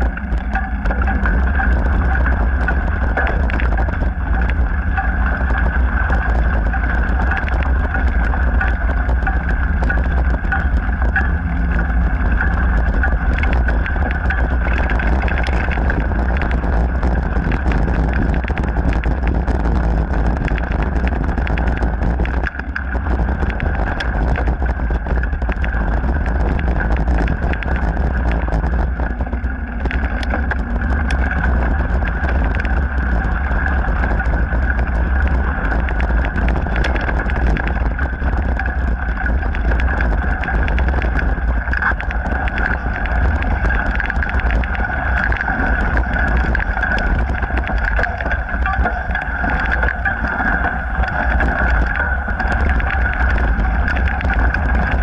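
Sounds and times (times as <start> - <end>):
bike rattling and clicking: 0.0 - 55.0
wind rumble on microphone: 0.0 - 55.0.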